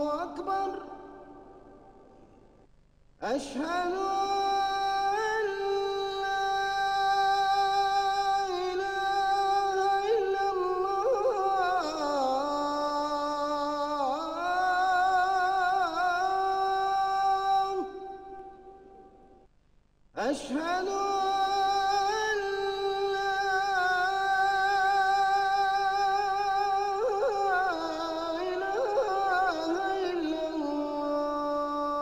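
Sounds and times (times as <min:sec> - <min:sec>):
person chanting: 0:00.0 - 0:02.2, 0:03.2 - 0:19.2, 0:20.2 - 0:32.0.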